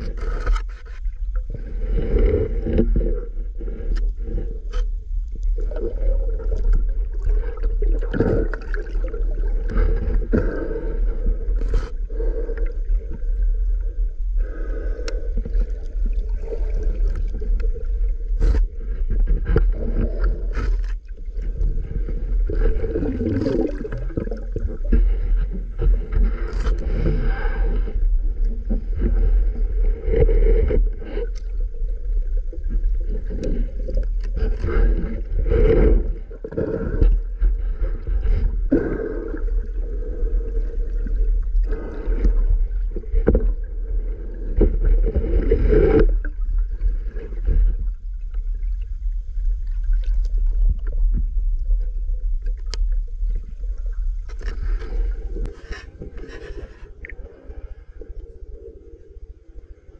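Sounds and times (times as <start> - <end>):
steady low rumble: 0.0 - 59.9
water sloshing and gurgling: 0.0 - 59.9.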